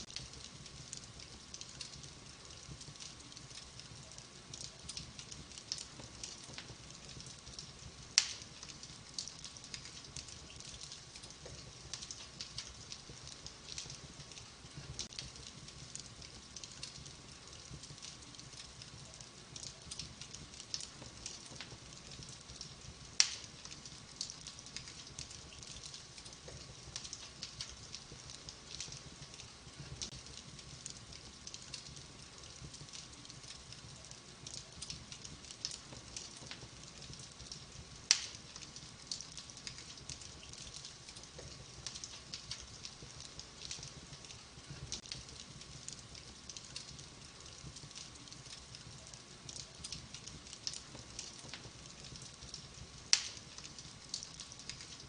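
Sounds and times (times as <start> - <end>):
sharp fire pops: 0.0 - 55.0
wood fire crackling: 0.0 - 55.0.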